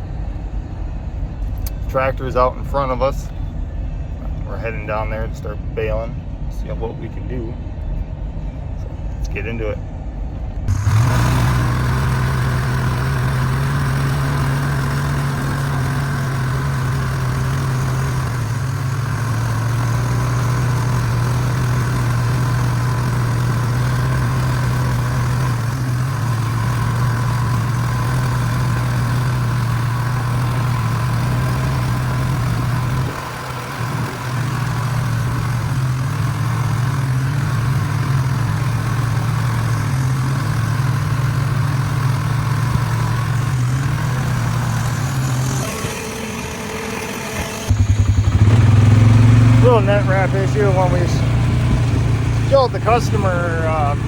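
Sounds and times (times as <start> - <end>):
heavy engine droning: 0.0 - 54.0.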